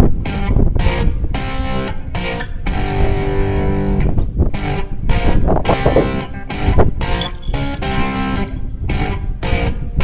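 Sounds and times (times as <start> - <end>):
guitar background music: 0.2 - 10.0.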